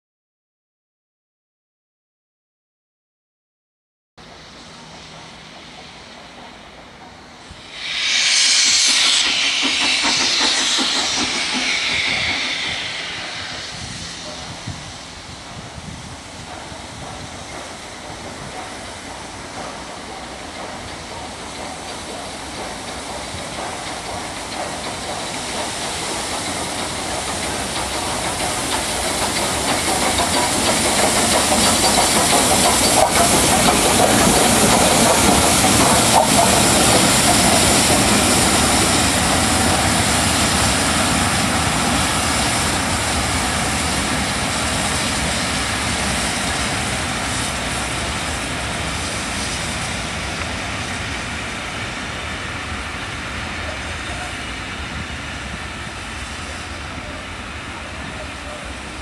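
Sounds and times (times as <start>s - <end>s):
steam locomotive passing: 4.2s - 59.0s.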